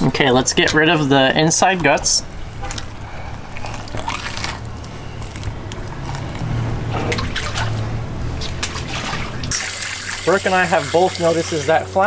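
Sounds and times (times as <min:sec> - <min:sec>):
steady low hum: 0:00.0 - 0:10.9
wet squelching of fish innards: 0:01.7 - 0:12.0.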